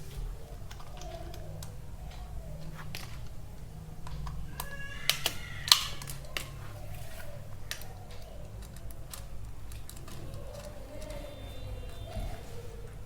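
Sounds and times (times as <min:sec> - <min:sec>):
tools and wires clicking: 0:00.0 - 0:03.4, 0:04.0 - 0:12.2
low steady hum: 0:00.0 - 0:13.0.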